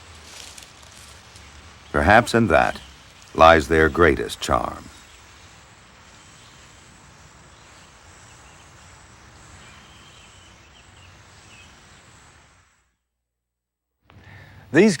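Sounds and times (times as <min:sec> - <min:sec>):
steady hiss: 0:00.0 - 0:13.1, 0:14.1 - 0:15.0.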